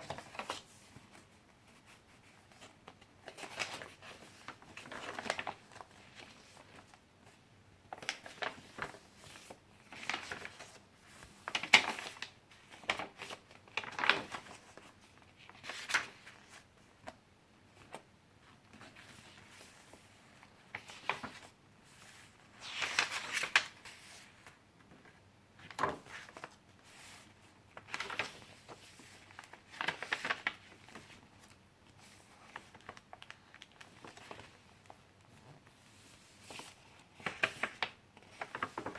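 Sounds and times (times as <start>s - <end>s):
paper pages rustling: 0.0s - 38.9s.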